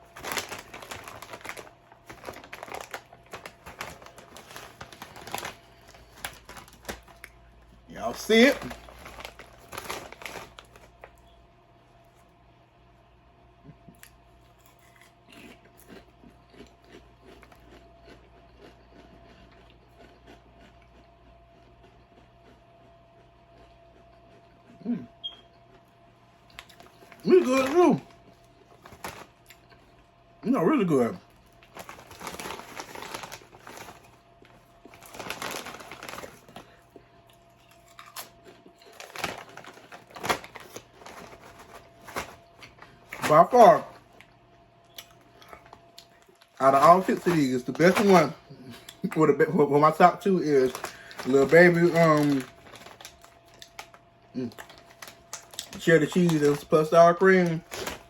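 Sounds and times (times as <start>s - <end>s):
person chewing crunchy chips: 0.0s - 11.1s, 13.7s - 25.8s, 26.4s - 58.0s.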